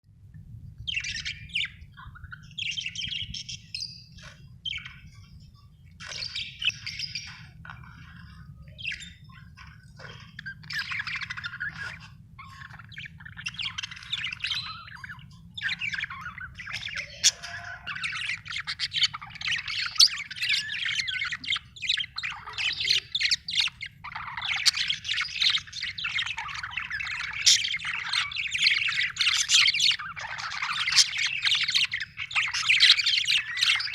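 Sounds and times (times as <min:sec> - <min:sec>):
budgerigar chirping and chattering: 0:00.9 - 0:33.9.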